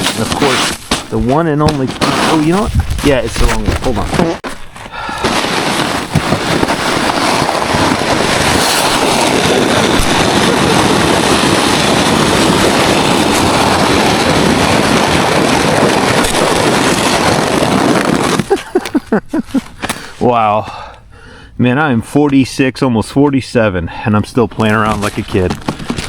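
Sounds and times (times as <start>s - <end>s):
sled scraping over icy snow: 0.0s - 19.7s, 24.6s - 26.0s.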